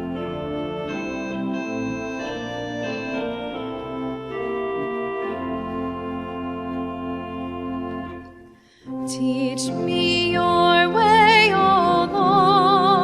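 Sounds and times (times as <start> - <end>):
church organ playing chords: 0.0 - 13.0.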